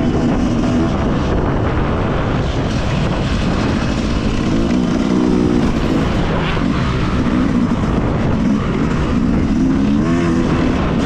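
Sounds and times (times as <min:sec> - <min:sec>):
motocross bike engine revving: 0:00.0 - 0:11.0
wind rushing over microphone: 0:00.0 - 0:11.0.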